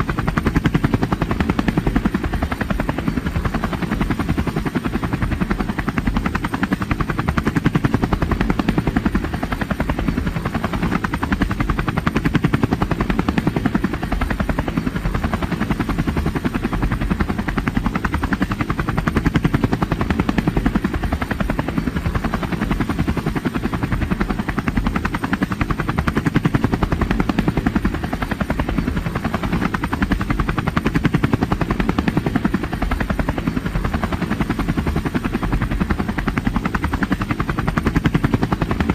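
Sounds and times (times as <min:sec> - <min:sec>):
helicopter engine running: 0:00.0 - 0:38.9
helicopter rotor chopping: 0:00.0 - 0:38.9.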